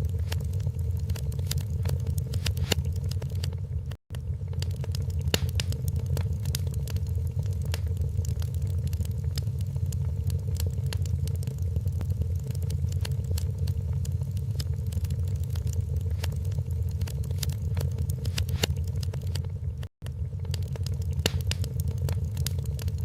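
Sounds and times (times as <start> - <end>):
low rumble of burning logs: 0.0 - 23.0
wood fire pops and snaps: 0.0 - 23.0.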